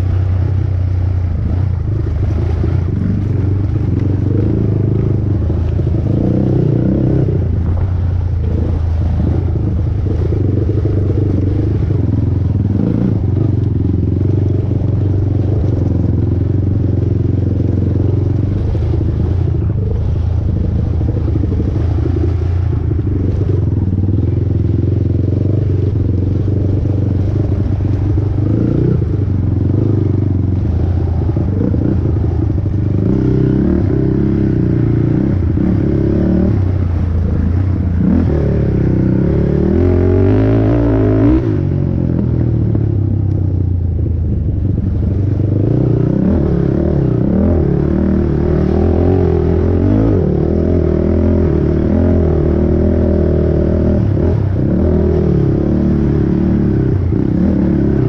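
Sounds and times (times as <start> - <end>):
quad bike engine revving: 0.0 - 43.3, 44.6 - 58.0.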